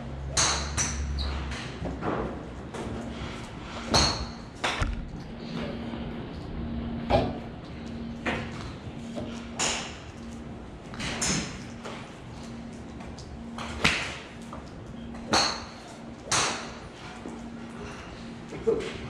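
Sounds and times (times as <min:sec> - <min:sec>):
golf clubs striking balls: 0:00.2 - 0:05.7, 0:08.2 - 0:18.9
faint hum: 0:02.3 - 0:19.0.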